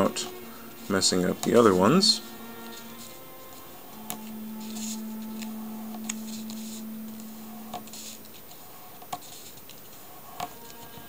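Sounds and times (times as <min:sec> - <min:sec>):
steady low tone: 0:00.0 - 0:09.0.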